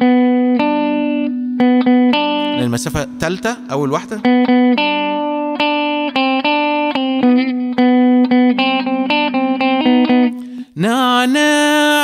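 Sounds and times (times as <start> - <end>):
clean electric guitar melody: 0.0 - 12.0.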